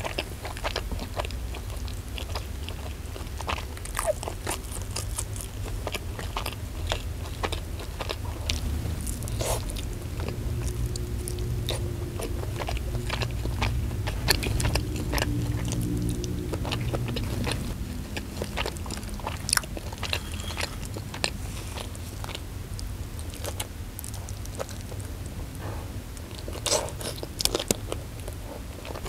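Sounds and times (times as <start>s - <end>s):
chewing and crunching fried chicken: 0.0s - 29.0s
steady low hum: 0.0s - 29.0s.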